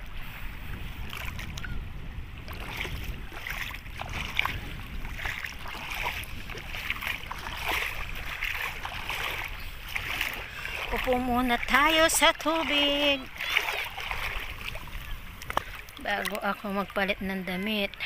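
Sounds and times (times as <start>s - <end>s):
sea waves lapping shore: 0.0s - 18.0s
wind rumbling on microphone: 0.0s - 18.0s.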